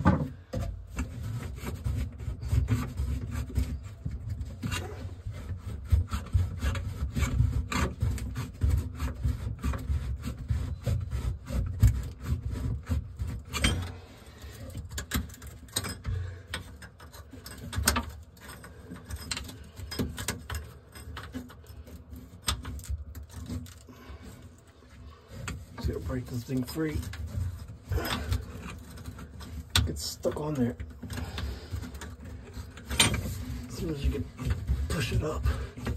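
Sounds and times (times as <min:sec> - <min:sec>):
metal nut scraping on threads: 0:00.4 - 0:35.9.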